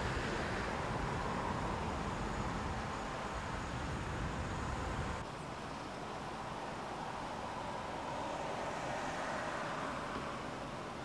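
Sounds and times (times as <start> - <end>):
traffic hum and hiss: 0.0 - 11.0.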